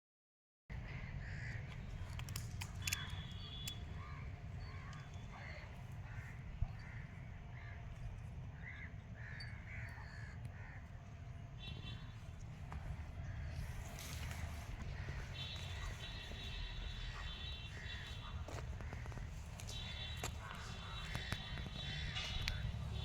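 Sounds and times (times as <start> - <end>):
birds calling: 0.7 - 23.0.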